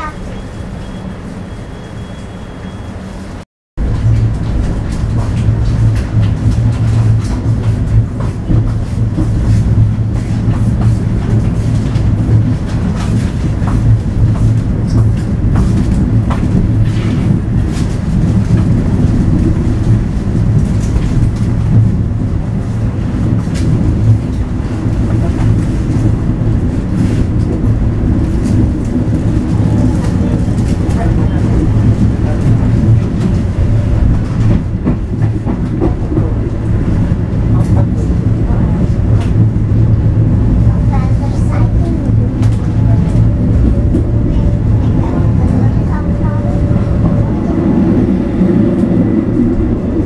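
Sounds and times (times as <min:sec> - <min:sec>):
train rumbling drone: 0:00.0 - 0:50.0
wheels clacking on track: 0:03.8 - 0:50.0.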